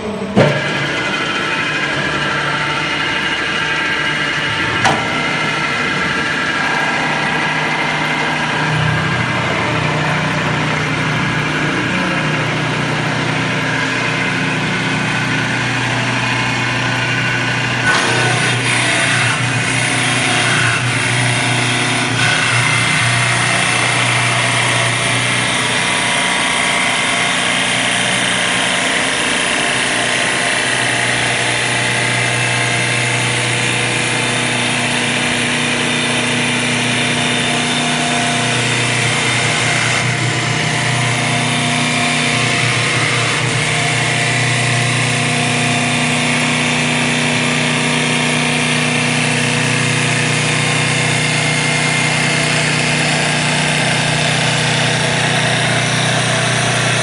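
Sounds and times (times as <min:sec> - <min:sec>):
lathe cutter cutting wood: 0:00.0 - 0:57.0
lathe motor humming: 0:00.0 - 0:57.0.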